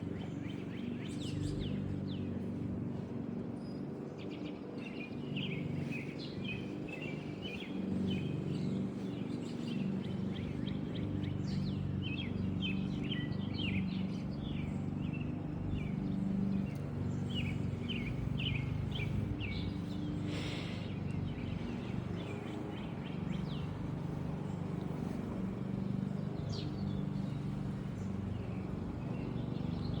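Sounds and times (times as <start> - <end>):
low mechanical hum: 0.0 - 30.0
small birds chirping: 0.0 - 30.0.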